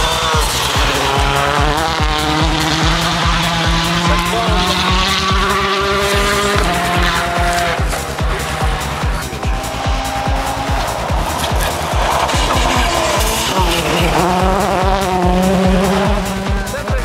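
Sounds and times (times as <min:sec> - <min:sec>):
electronic dance music: 0:00.0 - 0:17.0
rally car engine at high revs: 0:00.0 - 0:17.0.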